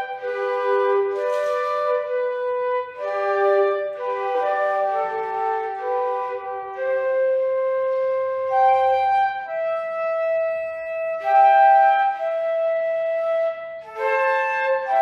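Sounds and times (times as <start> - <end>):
flute duet: 0.0 - 15.0.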